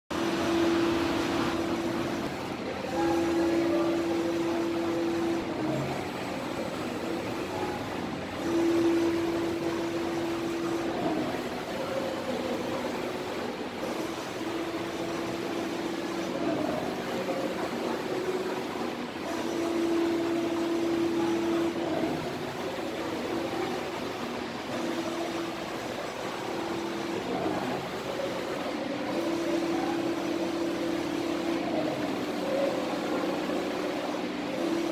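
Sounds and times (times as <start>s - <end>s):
inkjet printer mechanical hum: 0.1s - 34.9s
print-head carriage motor tone: 0.2s - 34.9s.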